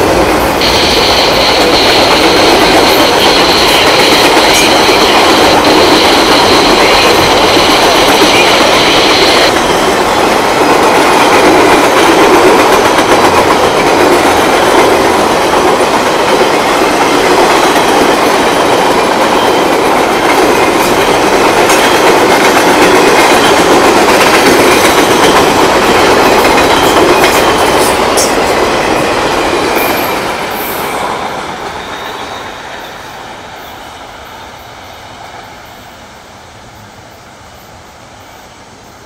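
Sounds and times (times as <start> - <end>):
sharp clicks of train wheels: 0.0 - 33.9
steel wheels on rails: 0.0 - 35.3.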